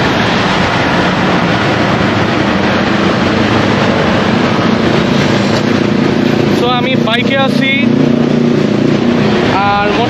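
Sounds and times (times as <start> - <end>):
motorcycle engine running: 0.0 - 10.0
road noise: 0.0 - 10.0
wind rushing: 0.0 - 10.0.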